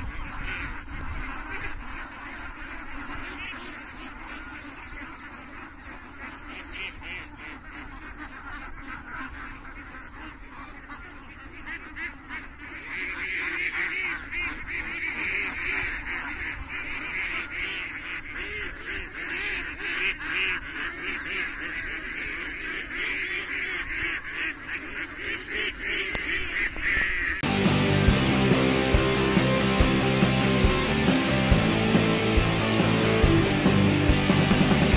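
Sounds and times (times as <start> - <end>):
flock of ducks quacking: 0.0 - 34.9.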